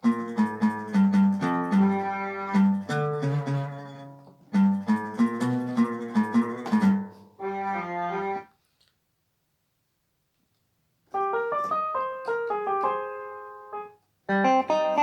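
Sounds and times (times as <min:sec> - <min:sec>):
keyboard playing melody: 0:00.0 - 0:08.5, 0:11.1 - 0:15.0.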